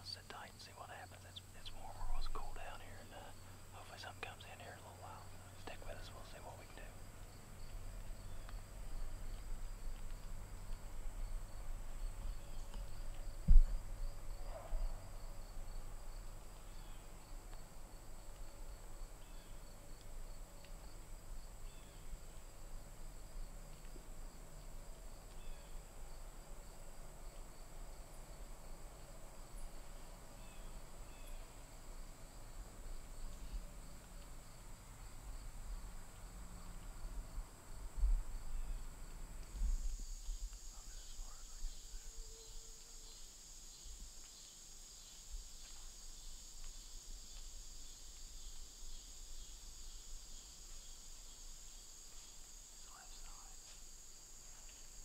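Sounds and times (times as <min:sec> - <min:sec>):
high-pitched insect chorus: 0:00.0 - 0:10.0, 0:10.6 - 0:23.9, 0:25.2 - 0:55.0.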